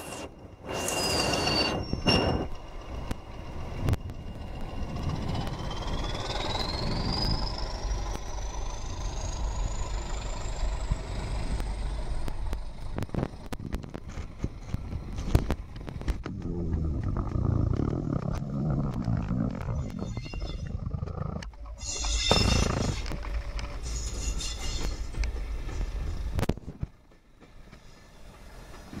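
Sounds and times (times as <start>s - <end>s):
train wheels clicking over rail joints: 0.0s - 20.0s, 21.4s - 29.0s
diesel locomotive engine rumble: 0.0s - 29.0s.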